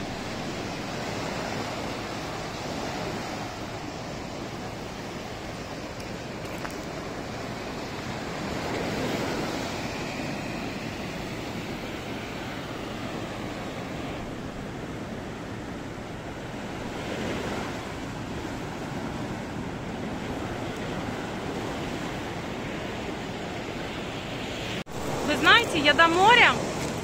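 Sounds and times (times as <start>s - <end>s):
small waves breaking on beach: 0.0s - 27.0s.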